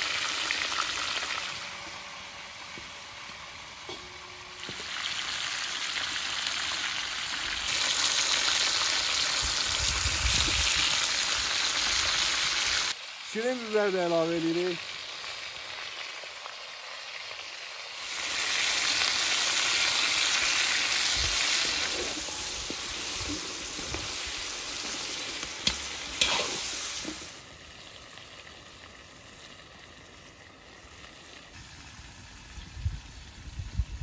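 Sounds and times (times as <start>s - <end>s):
food sizzling in hot fat: 0.0s - 34.0s.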